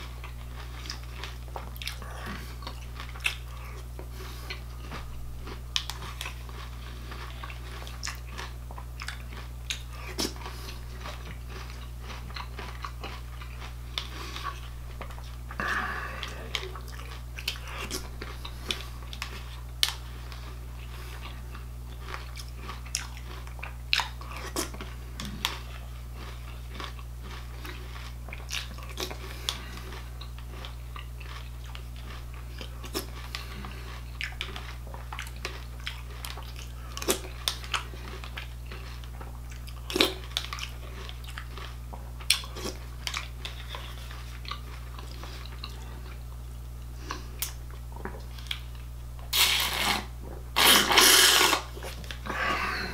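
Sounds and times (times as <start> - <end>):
person chewing cereal: 0.0 - 52.9
steady low hum: 0.0 - 52.9.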